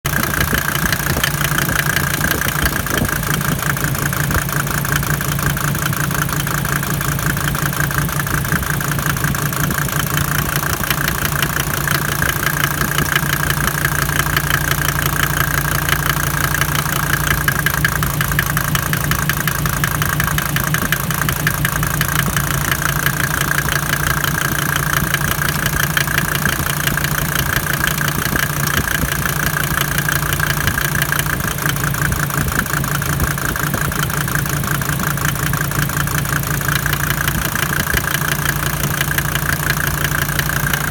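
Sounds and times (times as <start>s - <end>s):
diesel engine idling: 0.0s - 40.9s
fast even engine knock: 0.0s - 40.9s.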